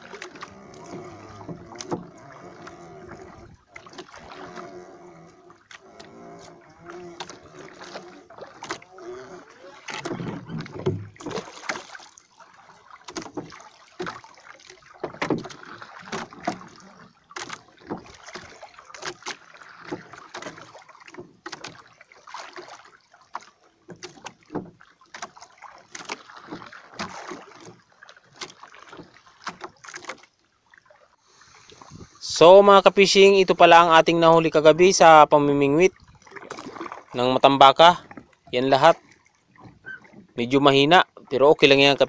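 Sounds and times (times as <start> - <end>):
wood knocking against boat: 0.0 - 22.7, 23.3 - 30.3, 34.5 - 41.2
paddle splashing in water: 0.0 - 42.0.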